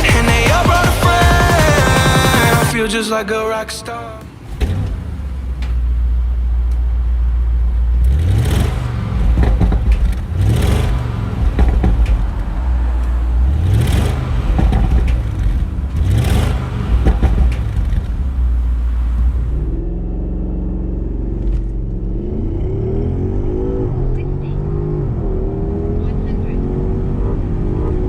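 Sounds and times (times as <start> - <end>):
car engine accelerating hard: 4.2 - 28.0.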